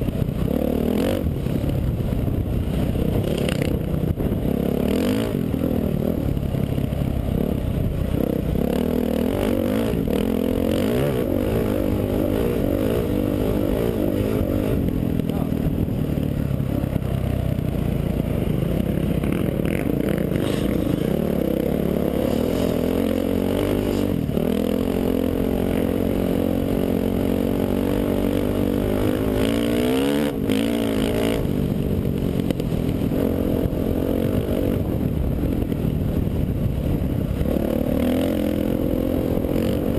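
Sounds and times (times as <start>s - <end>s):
dirt bike engine revving: 2.8s - 17.1s, 18.2s - 35.2s, 37.4s - 39.9s.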